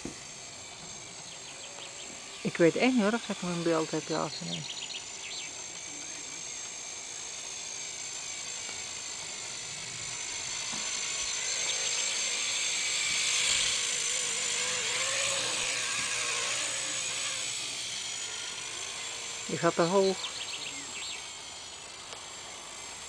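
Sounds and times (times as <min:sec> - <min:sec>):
rc helicopter motor whine: 0:00.0 - 0:23.0
rotor buzz: 0:00.0 - 0:23.0.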